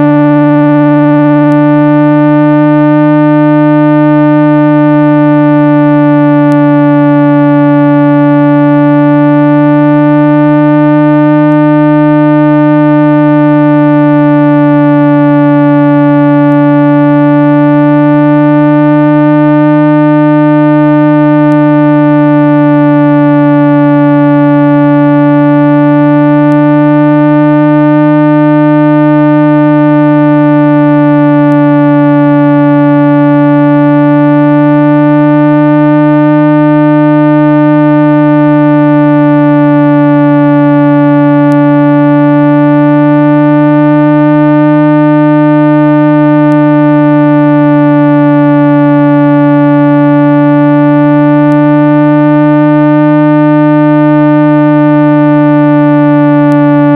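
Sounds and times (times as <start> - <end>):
low buzzy test tone: 0.0 - 56.9.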